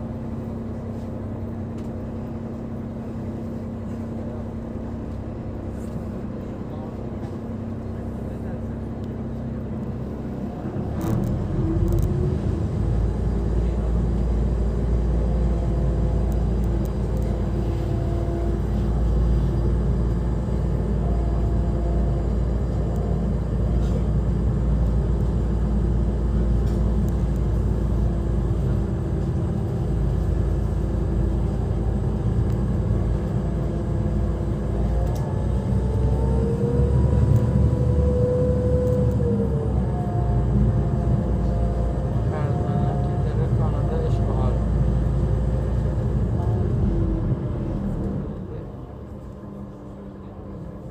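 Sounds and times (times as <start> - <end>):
ferry engine rumbling: 0.0 - 50.9.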